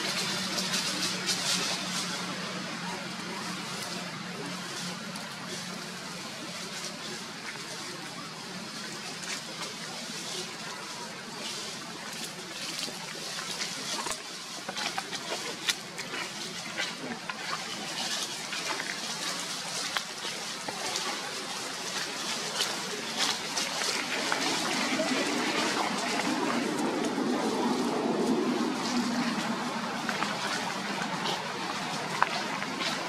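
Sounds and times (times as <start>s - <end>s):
dry leaves rustling and crackling: 0.0s - 33.0s.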